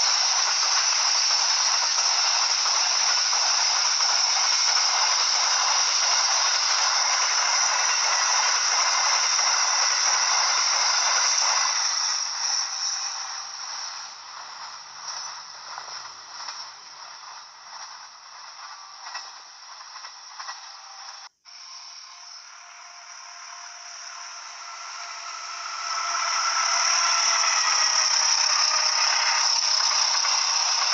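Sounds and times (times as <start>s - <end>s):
train rattling on track: 0.0s - 21.3s, 24.6s - 30.9s.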